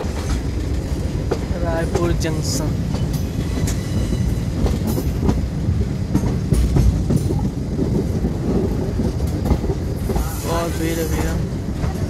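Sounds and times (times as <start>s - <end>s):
train low rumble: 0.0s - 12.0s
wheels clicking over rail joints: 0.0s - 12.0s.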